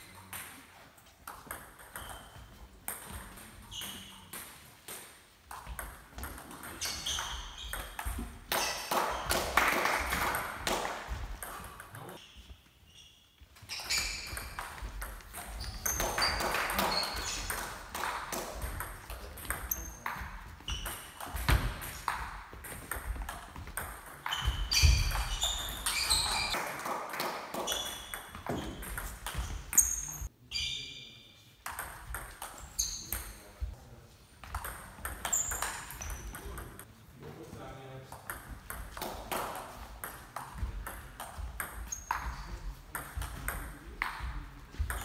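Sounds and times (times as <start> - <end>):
ball bouncing on table: 1.2 - 12.2, 13.9 - 30.2, 34.4 - 36.8, 38.1 - 45.0.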